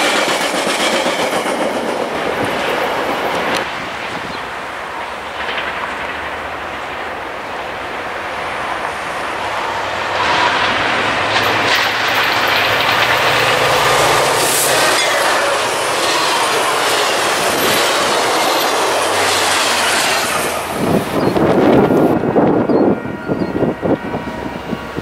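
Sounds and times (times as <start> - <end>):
train wheels clicking over rail joints: 0.0 - 7.8, 8.5 - 22.6
locomotive engine drone: 2.0 - 25.0.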